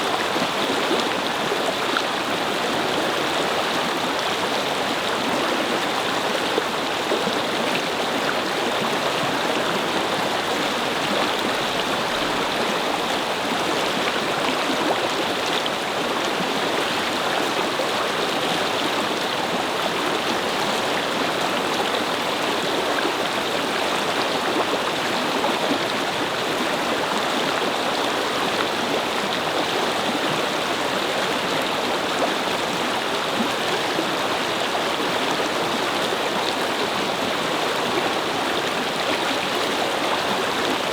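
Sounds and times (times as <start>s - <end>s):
brook babbling over rocks: 0.0s - 40.9s.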